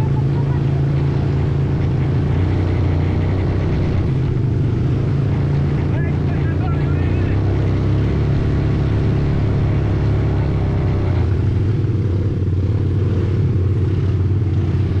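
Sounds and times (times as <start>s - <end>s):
quad bike engine droning: 0.0s - 15.0s.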